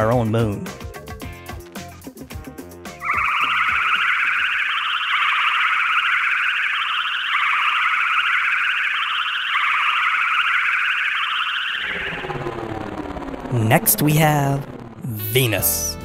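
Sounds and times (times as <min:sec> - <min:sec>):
electronic warbling tone: 0:03.0 - 0:15.8.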